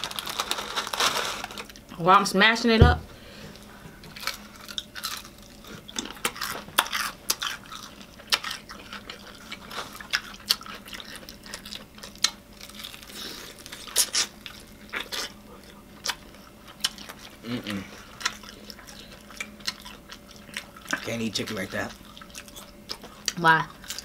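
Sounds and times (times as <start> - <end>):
chewing crispy food: 0.0 - 2.0, 3.6 - 24.0.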